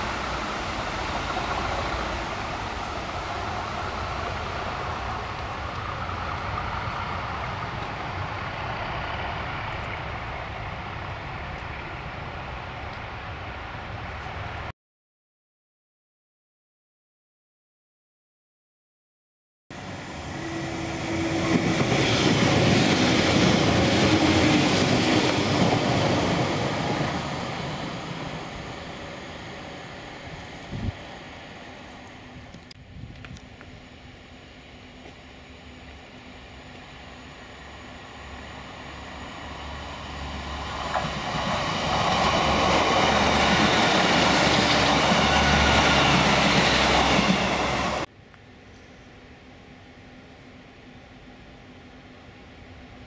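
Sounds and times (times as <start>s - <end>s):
passing train engine and wheels: 0.0s - 14.7s, 19.7s - 53.0s.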